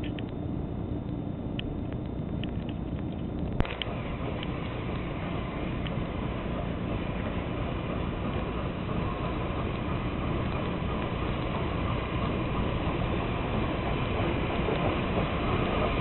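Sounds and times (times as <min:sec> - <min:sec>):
steam train rumbling: 0:03.2 - 0:16.0.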